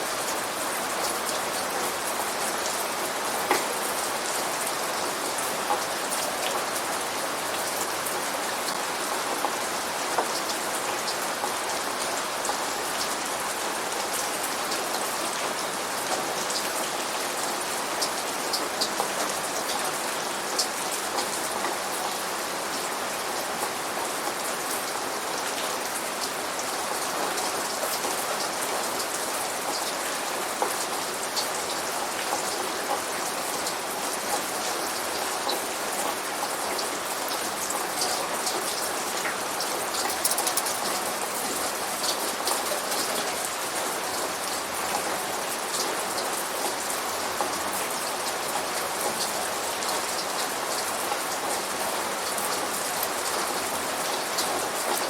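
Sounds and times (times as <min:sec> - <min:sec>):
simulated rain: 0:00.0 - 0:55.0.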